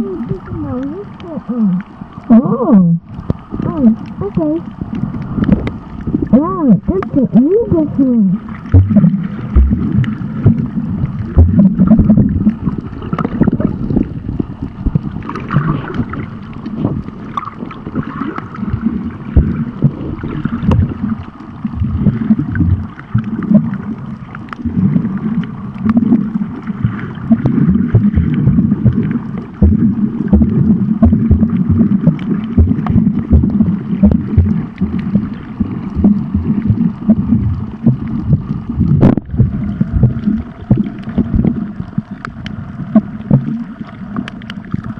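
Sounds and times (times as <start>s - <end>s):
dense low rumble: 0.0s - 44.9s
underwater water sloshing: 0.0s - 44.9s.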